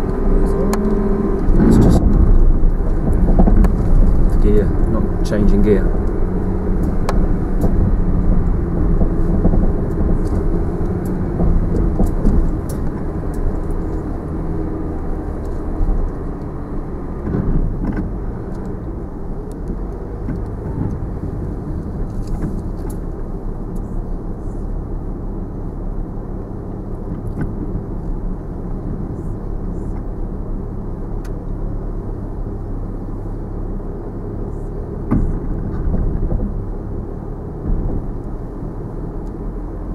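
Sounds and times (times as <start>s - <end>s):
car engine running low: 0.0s - 39.9s
tyres rumbling on dirt track: 0.0s - 39.9s.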